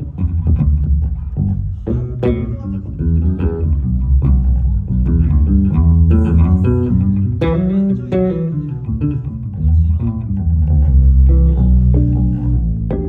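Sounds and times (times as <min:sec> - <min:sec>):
electric bass guitar plucked notes: 0:00.0 - 0:13.0.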